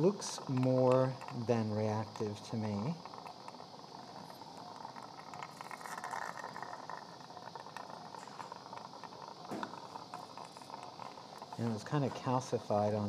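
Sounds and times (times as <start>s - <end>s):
surgical suction hissing: 0.0s - 13.0s.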